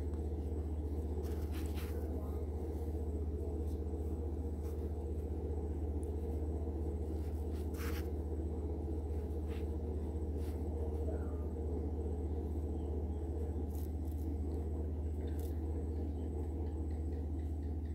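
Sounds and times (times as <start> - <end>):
low background hum: 0.0 - 17.9.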